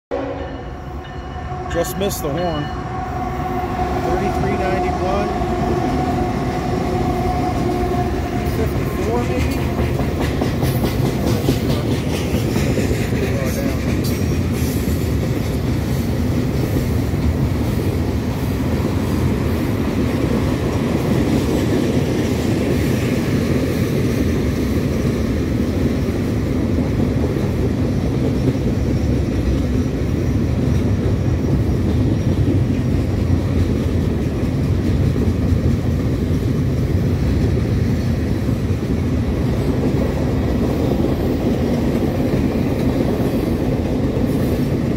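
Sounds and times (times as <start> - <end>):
steel wheels rumbling on rail: 0.1 - 44.9.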